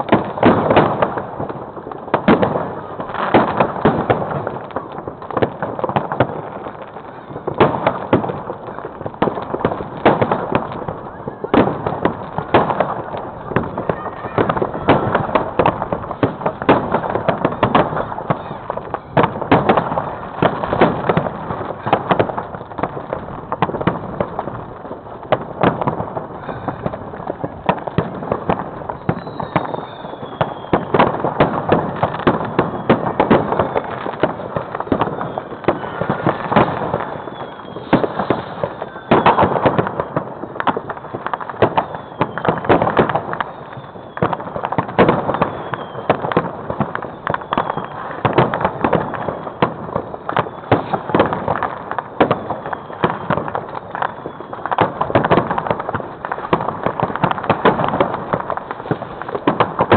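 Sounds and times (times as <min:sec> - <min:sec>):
fireworks bangs and crackles: 0:00.0 - 0:59.9
firework whistles: 0:07.0 - 0:24.6, 0:25.6 - 0:59.9.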